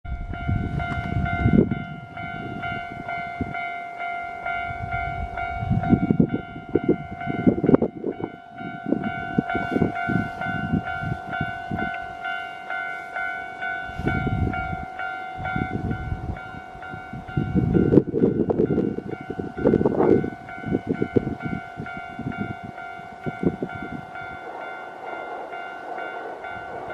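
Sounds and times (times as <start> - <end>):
train passing rumble and clatter: 0.0 - 26.9
level-crossing warning bell: 0.1 - 26.9.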